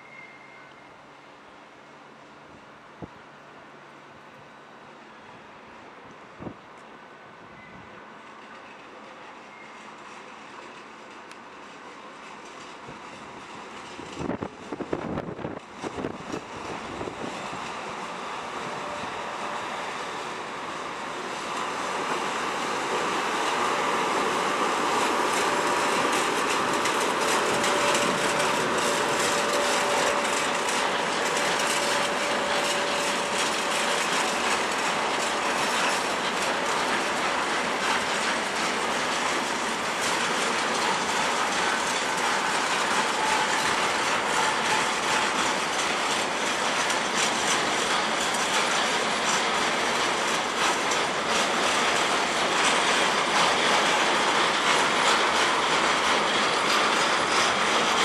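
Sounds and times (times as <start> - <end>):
train wheels clattering over rails: 8.2 - 58.0.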